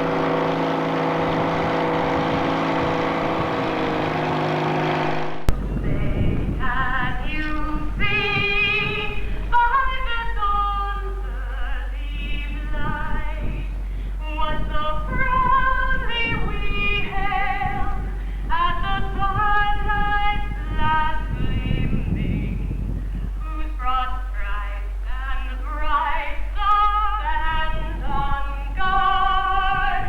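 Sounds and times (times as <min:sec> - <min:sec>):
steady low hum: 0:00.0 - 0:30.0
woman singing: 0:05.5 - 0:30.0.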